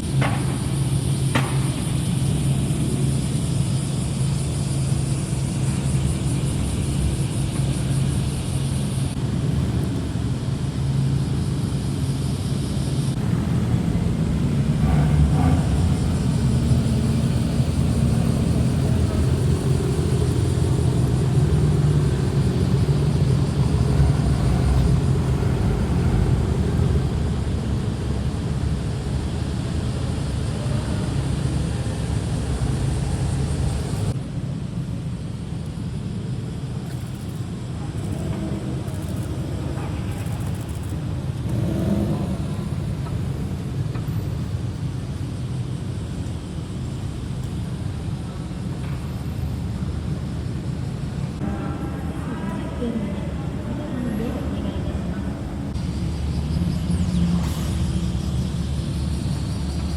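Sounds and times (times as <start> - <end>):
car engine and exhaust rumble: 0.0 - 34.3, 35.1 - 59.9.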